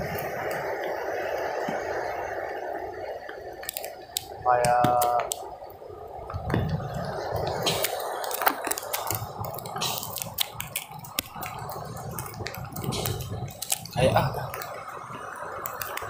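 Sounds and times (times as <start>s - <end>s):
heavy rain: 0.0s - 5.5s, 6.2s - 16.0s
low wind rumble: 0.0s - 16.0s
raindrops tapping near microphone: 0.0s - 16.0s.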